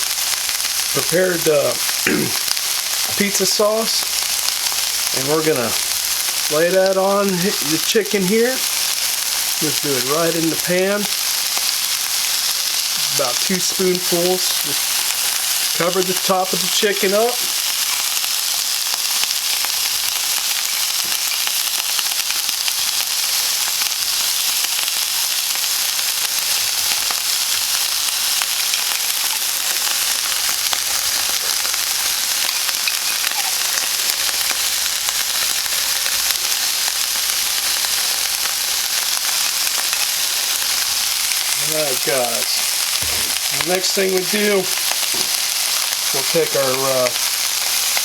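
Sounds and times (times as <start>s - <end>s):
chicken sizzling in a pan: 0.0s - 48.0s.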